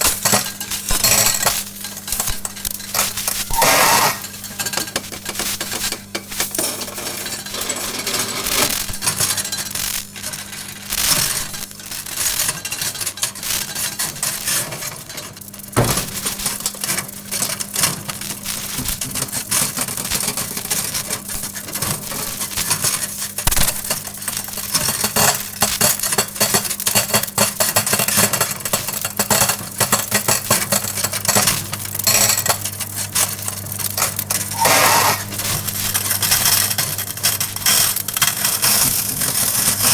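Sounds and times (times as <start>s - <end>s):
metal arcing in microwave crackling: 0.0s - 39.9s
microwave oven hum: 0.0s - 39.9s.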